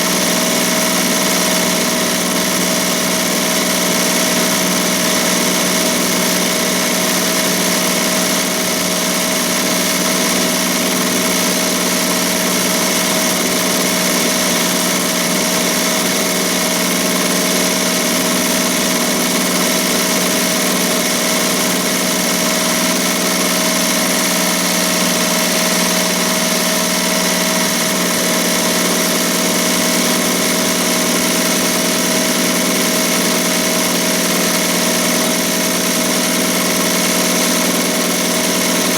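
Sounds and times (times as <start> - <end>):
embroidery machine stitching: 0.0 - 38.9.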